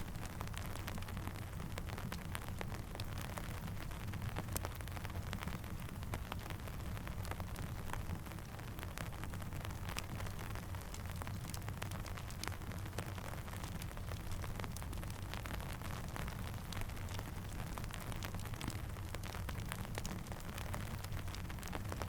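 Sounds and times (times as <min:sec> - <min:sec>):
campfire crackling and popping: 0:00.0 - 0:22.0
rain falling: 0:00.0 - 0:22.0.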